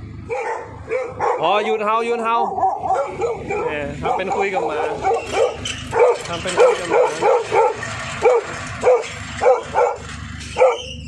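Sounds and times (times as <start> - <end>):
dog barking loudly: 0.3 - 11.0.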